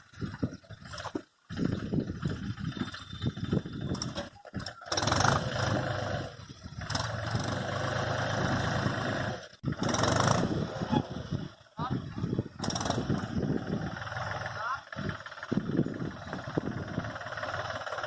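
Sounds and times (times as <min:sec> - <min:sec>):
tractor diesel engine running hard: 0:01.5 - 0:18.0.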